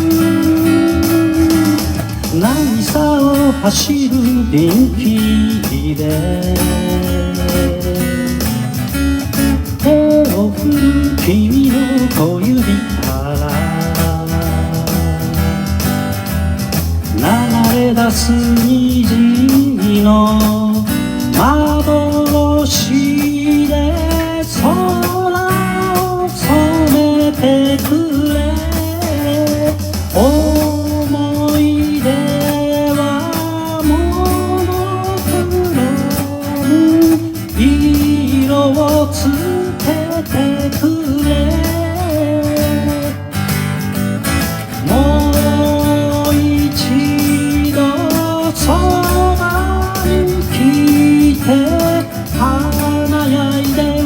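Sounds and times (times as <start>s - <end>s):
pop song with guitar and beat: 0.0s - 54.0s.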